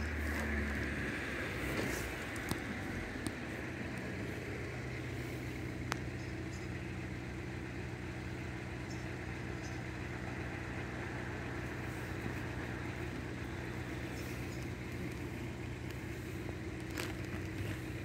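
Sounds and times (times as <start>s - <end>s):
engine idling hum: 0.0s - 18.0s.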